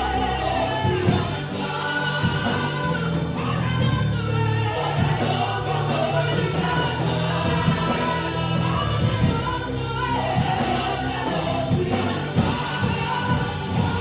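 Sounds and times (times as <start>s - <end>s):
band playing worship music: 0.0s - 14.0s
voices singing together: 0.0s - 14.0s.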